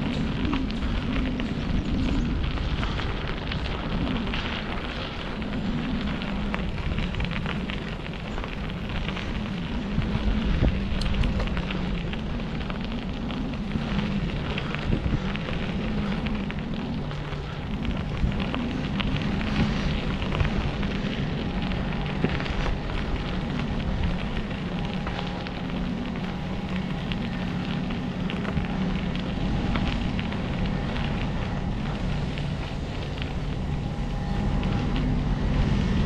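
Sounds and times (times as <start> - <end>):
bicycle tyres rumbling on dirt: 0.0 - 36.0
wind buffeting microphone: 0.0 - 36.0.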